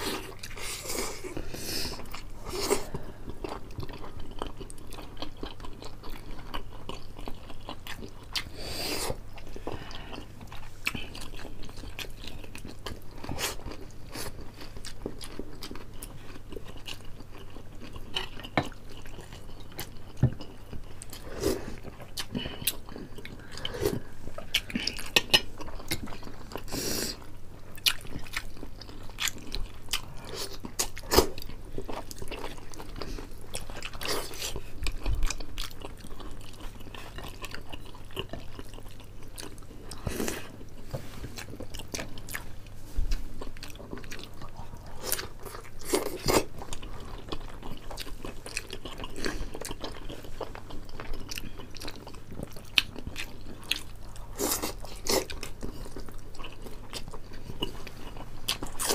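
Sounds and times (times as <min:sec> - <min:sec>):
people chewing food: 0:00.0 - 0:58.9.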